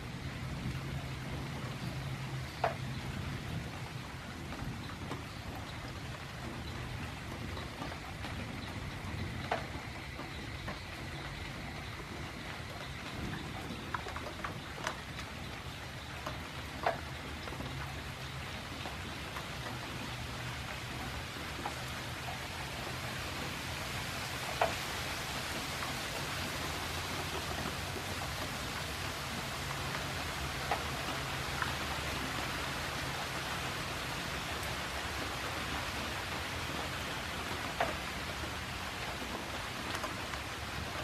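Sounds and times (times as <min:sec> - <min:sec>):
raindrops ticking: 0:00.0 - 0:41.0
steady rain: 0:00.0 - 0:41.0.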